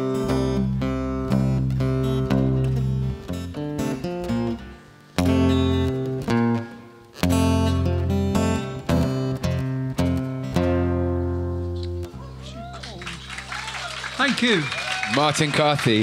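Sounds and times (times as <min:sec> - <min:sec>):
acoustic guitar: 0:00.0 - 0:14.3.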